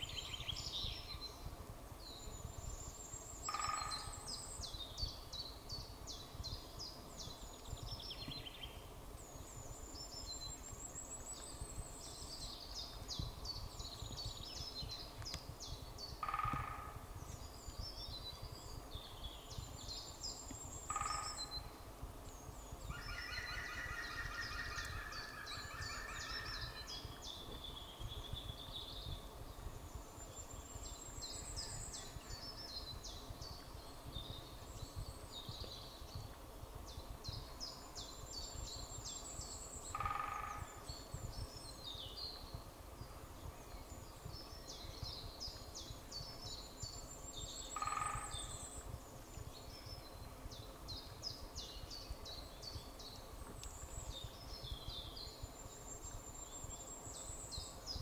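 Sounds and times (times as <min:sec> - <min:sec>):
songbirds trilling: 0:00.0 - 0:58.0.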